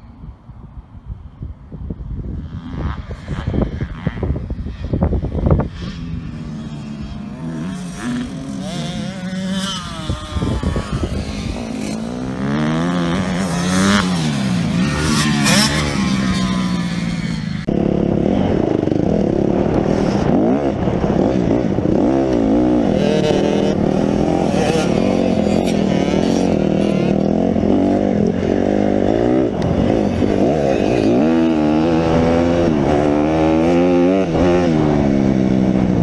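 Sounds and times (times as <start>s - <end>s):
dirt bike engines revving: 2.3s - 36.0s.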